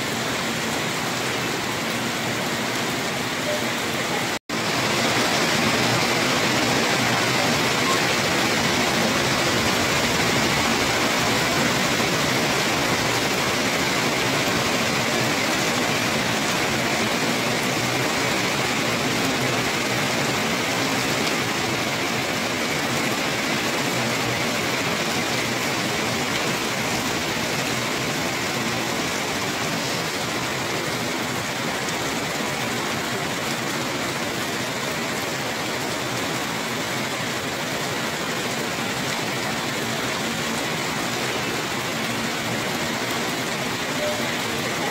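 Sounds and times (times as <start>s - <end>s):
heavy rain on paving and trees: 0.0s - 44.9s.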